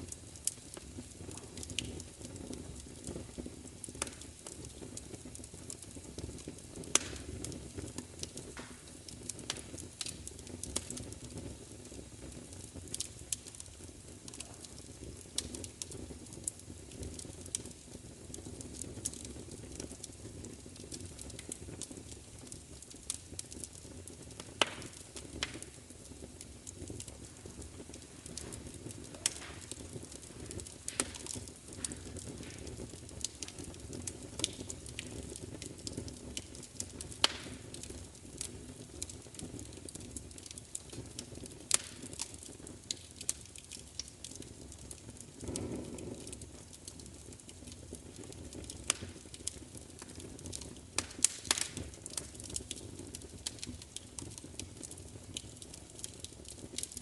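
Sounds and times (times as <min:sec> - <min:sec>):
low whoosh of fire: 0:00.0 - 0:57.0
wood fire crackling: 0:00.0 - 0:57.0.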